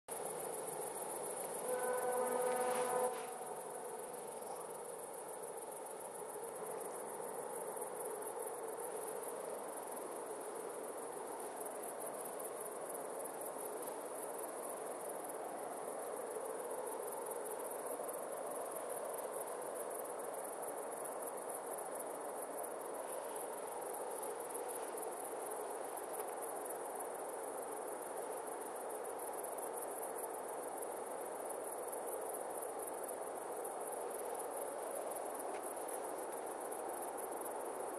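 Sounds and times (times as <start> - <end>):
crickets chirring: 0.1 - 37.9.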